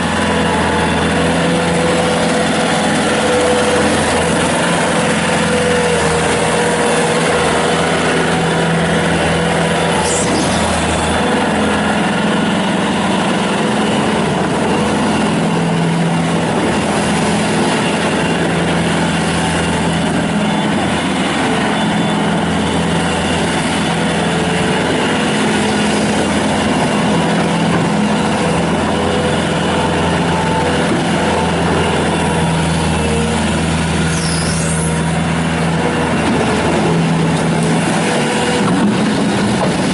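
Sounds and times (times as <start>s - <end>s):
diesel loader engine running: 0.0s - 39.9s.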